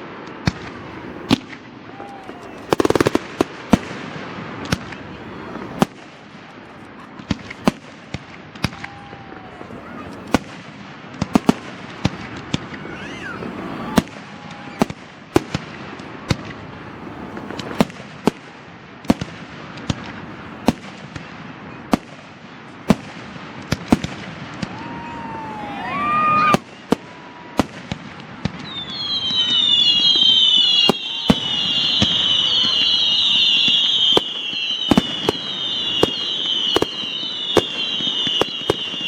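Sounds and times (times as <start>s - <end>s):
firework bangs: 0.0s - 39.0s
fireworks crackling hiss: 0.0s - 39.0s
whistling firework shells: 0.2s - 18.5s, 23.7s - 39.0s.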